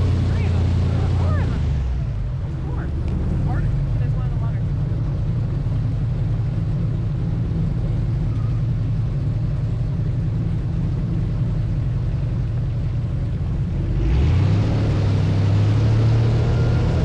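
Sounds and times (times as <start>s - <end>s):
airboat engine and propeller drone: 0.0s - 17.0s.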